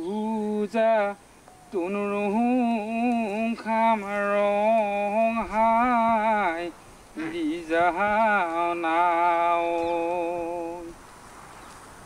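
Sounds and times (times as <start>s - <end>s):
person singing slow chant: 0.0s - 11.0s.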